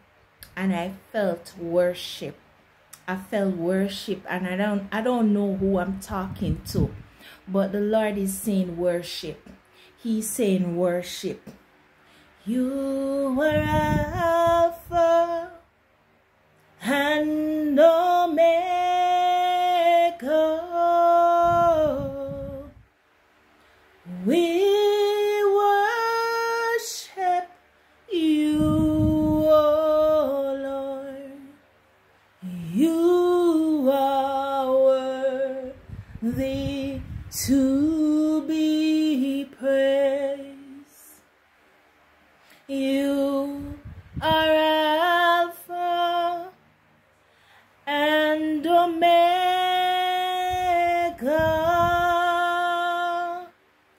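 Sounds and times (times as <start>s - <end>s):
woman singing unaccompanied: 0.4s - 11.6s, 12.4s - 15.7s, 16.8s - 22.9s, 24.0s - 31.6s, 32.4s - 41.3s, 42.6s - 46.6s, 47.8s - 53.6s.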